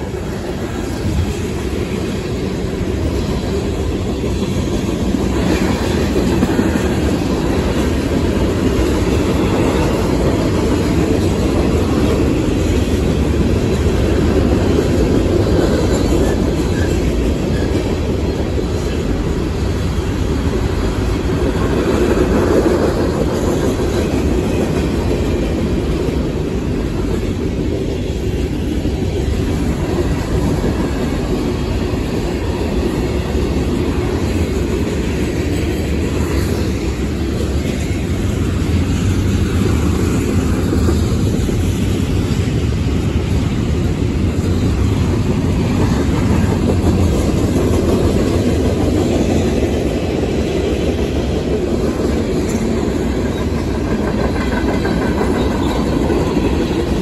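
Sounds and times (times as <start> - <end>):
freight cars rolling on rails: 0.0 - 57.0.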